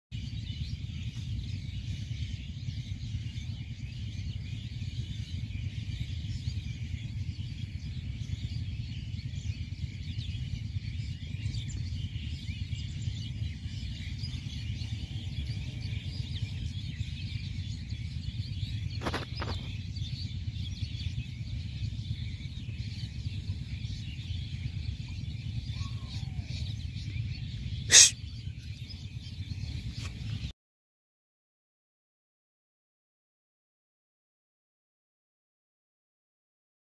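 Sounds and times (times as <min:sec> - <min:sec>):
birds chirping: 0:00.2 - 0:30.5
wind rumble on microphone: 0:00.2 - 0:30.5.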